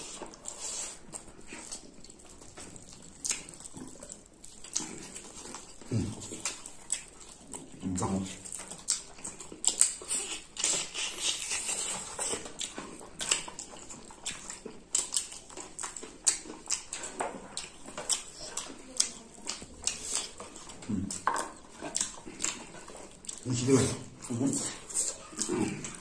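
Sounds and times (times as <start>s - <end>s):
people chewing and lip smacking: 0.0s - 26.0s.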